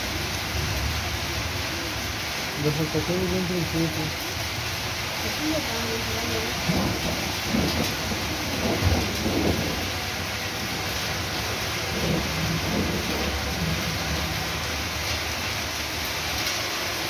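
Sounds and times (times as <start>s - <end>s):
heavy rain on paving: 0.0s - 17.0s.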